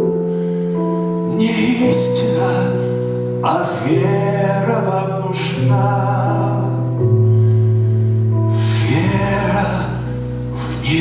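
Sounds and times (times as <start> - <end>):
hissing swell: 0.2 - 11.0.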